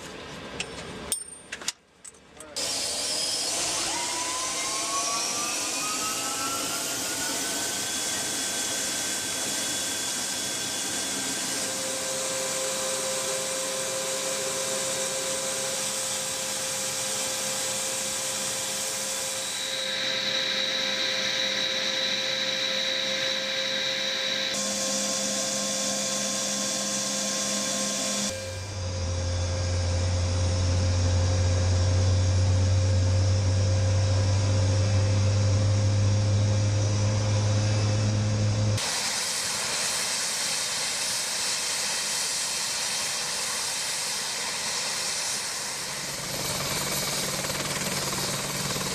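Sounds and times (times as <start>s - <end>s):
turbine engine whine: 2.4s - 48.9s.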